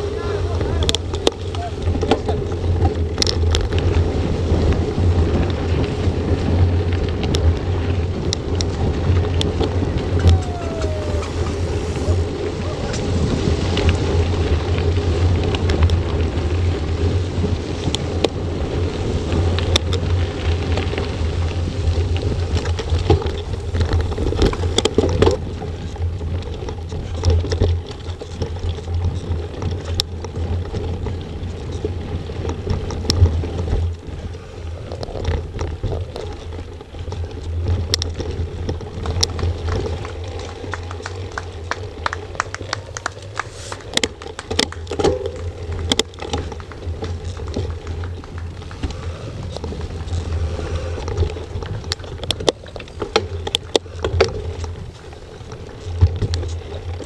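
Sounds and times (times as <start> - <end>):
bike rattles and clicks: 0.0 - 57.0
tyres on gravel and dirt: 0.0 - 57.0
wind rumbling on microphone: 0.0 - 57.0.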